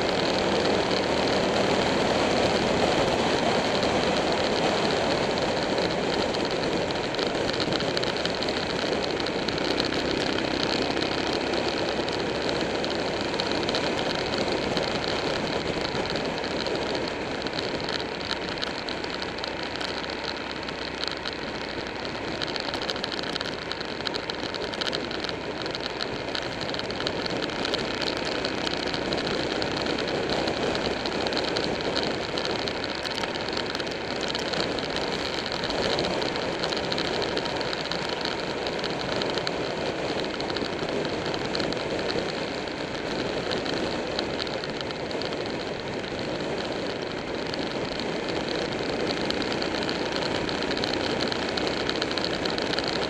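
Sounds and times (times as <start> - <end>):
motorcycle engine running: 0.0 - 53.0
wind and road noise: 0.0 - 53.0.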